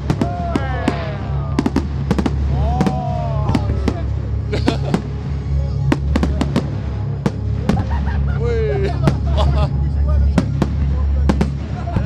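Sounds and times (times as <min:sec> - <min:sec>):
fireworks bangs: 0:00.0 - 0:08.3, 0:08.9 - 0:09.7, 0:10.3 - 0:12.0
low rumble: 0:00.0 - 0:12.0.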